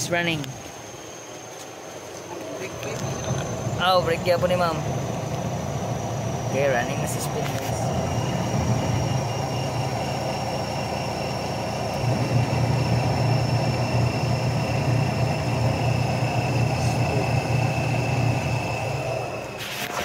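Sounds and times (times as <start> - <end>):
washing machine spin motor humming: 0.0 - 20.0.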